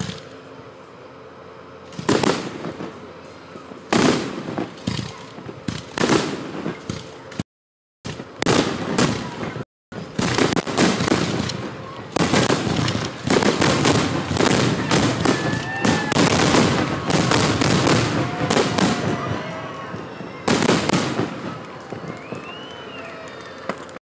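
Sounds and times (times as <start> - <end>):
fireworks bursting: 0.0 - 0.4, 1.2 - 7.4, 8.0 - 24.0.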